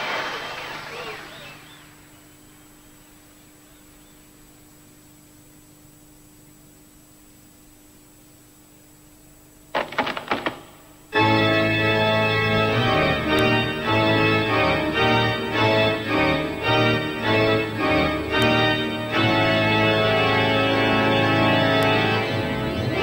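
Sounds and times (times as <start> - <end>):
organ chords: 0.0 - 6.6, 9.1 - 23.0.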